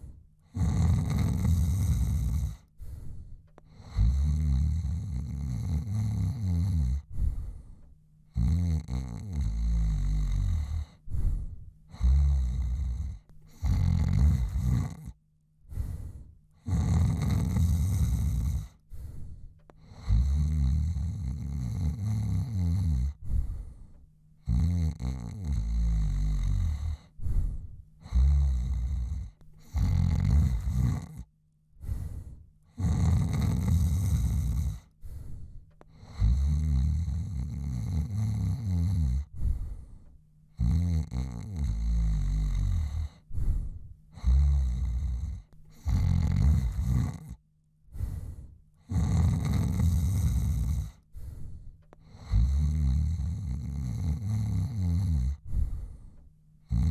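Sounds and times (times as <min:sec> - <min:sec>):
man snoring: 0:00.0 - 0:03.0, 0:03.6 - 0:07.6, 0:08.3 - 0:39.9, 0:40.5 - 0:47.4, 0:48.0 - 0:56.0, 0:56.6 - 0:56.9.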